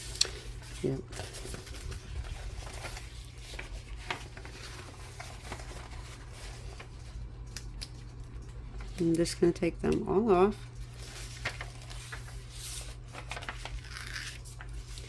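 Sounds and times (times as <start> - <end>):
paper rustling: 0.0 - 9.2, 10.6 - 15.0
steady low hum: 0.0 - 15.0.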